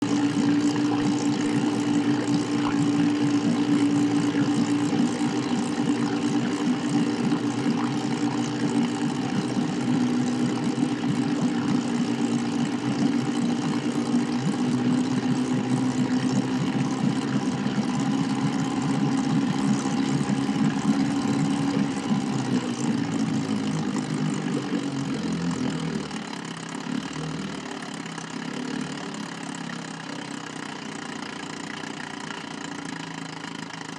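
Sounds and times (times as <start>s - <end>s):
outboard motor running: 0.0s - 33.9s.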